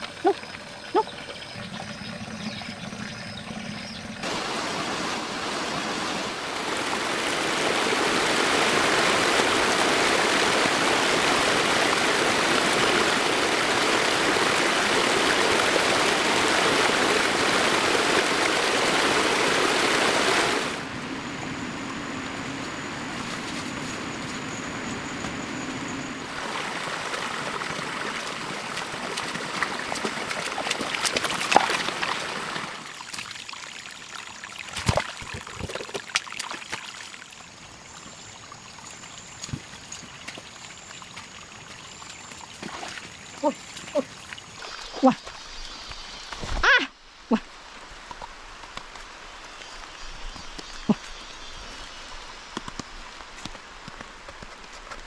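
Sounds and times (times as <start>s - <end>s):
stream water rushing: 0.0s - 45.2s.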